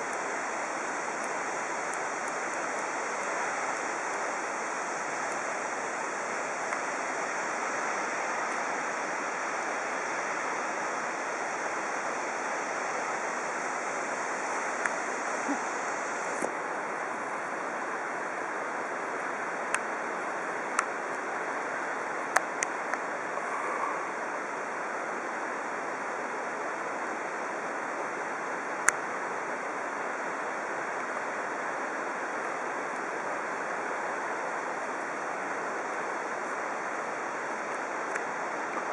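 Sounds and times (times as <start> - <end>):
waterfall roaring: 0.0 - 23.4, 24.1 - 38.9.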